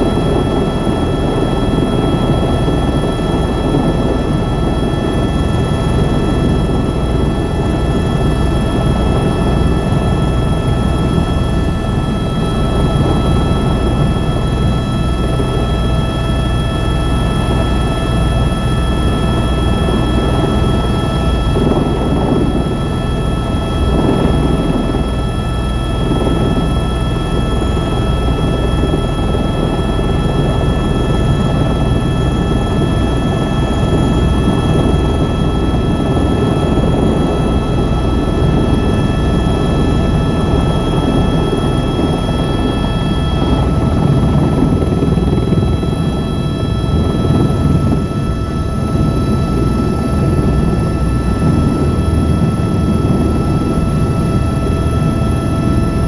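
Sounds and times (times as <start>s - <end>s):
helicopter rotor and turbine: 0.0s - 56.0s.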